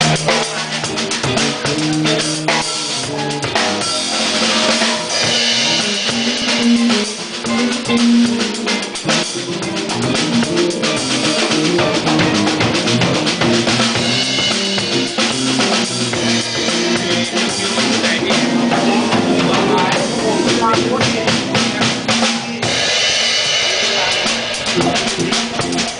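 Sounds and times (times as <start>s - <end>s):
drum kit playing a beat: 0.0s - 25.9s.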